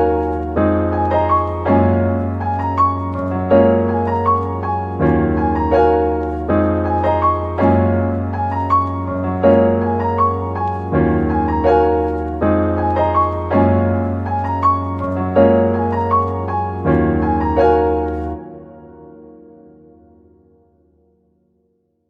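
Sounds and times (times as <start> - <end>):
calm piano music: 0.0 - 22.0.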